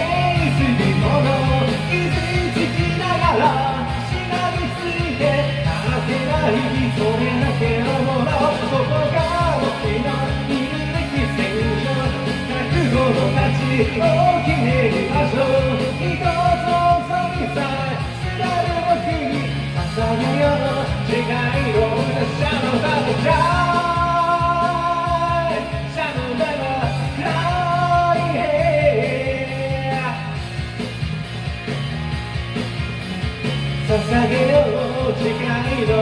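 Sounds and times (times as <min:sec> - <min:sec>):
man singing: 0:00.0 - 0:30.6, 0:33.8 - 0:36.0
rock music backing track: 0:00.0 - 0:36.0.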